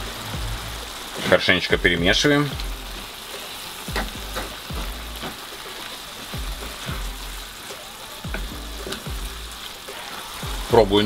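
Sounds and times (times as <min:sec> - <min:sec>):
food sizzling: 0:00.0 - 0:11.0.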